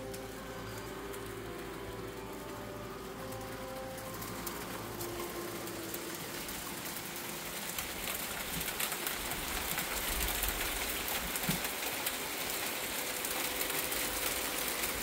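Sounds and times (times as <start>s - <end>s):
hail and rain on wooden deck: 0.0s - 15.0s.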